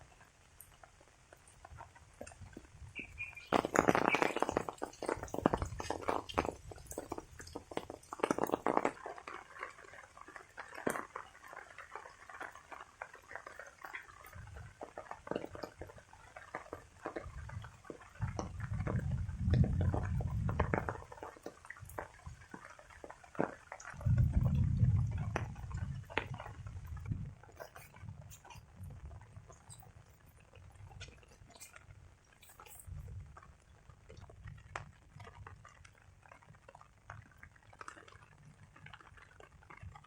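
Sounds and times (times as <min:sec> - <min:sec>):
rain dripping and splashing: 0:00.0 - 0:40.0.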